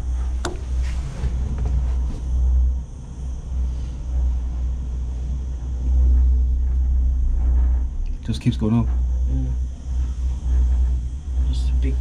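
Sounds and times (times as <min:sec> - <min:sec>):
low rumble inside cable car: 0:00.0 - 0:12.0.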